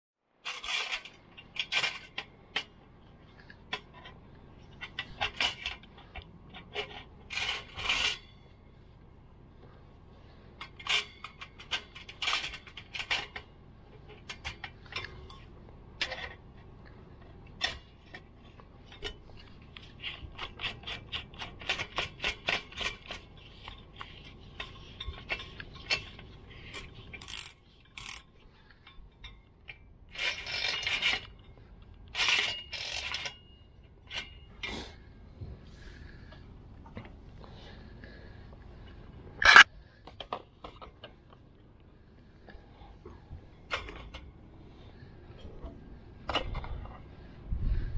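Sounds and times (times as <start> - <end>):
metallic clicks and scrapes: 0.4 - 8.6, 10.2 - 37.2, 38.8 - 41.4, 43.6 - 47.4.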